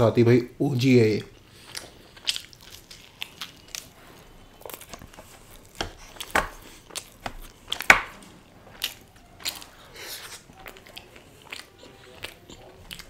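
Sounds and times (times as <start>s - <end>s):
person chewing food: 1.2s - 13.0s.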